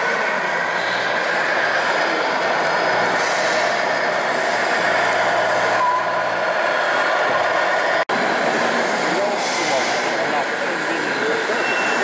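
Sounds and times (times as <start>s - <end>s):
model trucks running: 0.0s - 12.0s.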